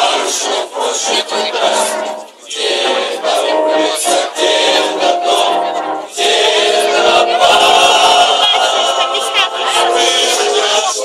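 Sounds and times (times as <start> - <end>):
boys singing sustained notes: 0.0 - 11.0.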